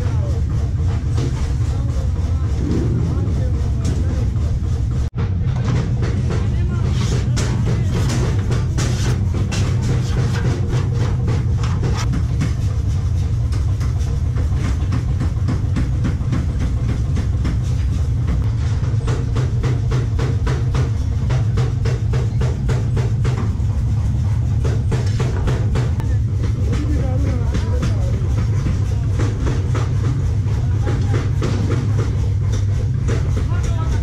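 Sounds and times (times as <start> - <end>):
loud low hum: 0.0 - 34.0.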